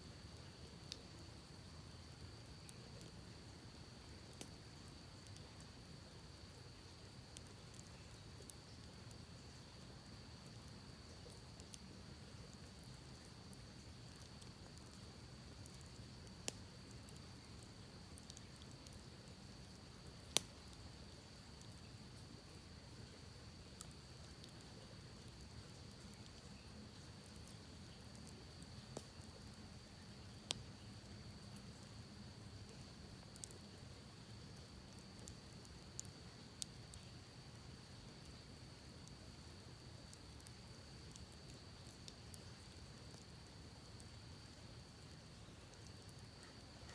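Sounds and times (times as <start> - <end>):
campfire crackling: 0.0 - 46.9
burning wood pops and snaps: 1.9 - 46.9.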